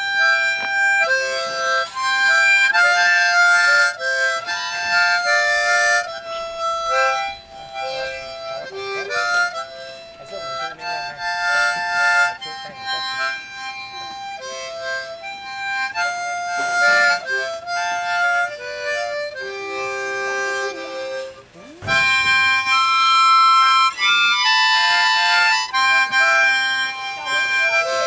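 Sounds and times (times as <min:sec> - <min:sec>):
harmonica melody: 0:00.0 - 0:28.0.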